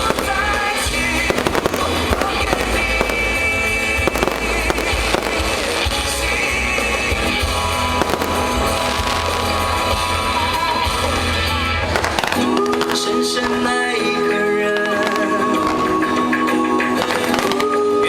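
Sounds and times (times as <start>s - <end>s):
loud music with bass line: 0.0s - 17.6s
fireworks exploding: 0.0s - 18.0s.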